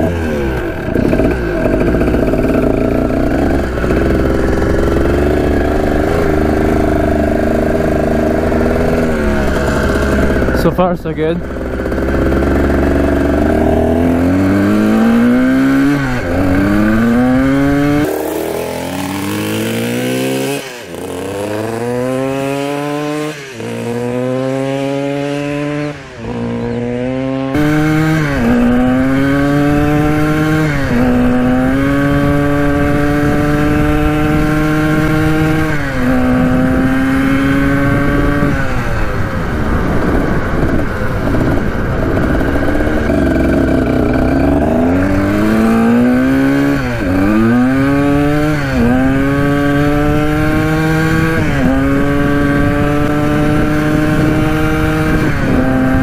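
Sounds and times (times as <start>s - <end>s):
two-stroke motorcycle engine accelerating: 0.0s - 56.0s.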